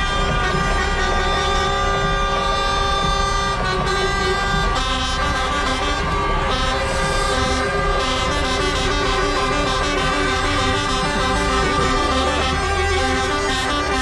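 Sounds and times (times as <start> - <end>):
truck air horns chord: 0.0 - 14.0.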